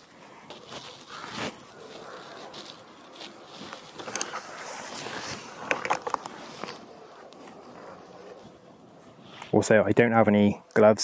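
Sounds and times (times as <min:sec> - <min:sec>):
close rustling and handling: 0:00.0 - 0:09.6.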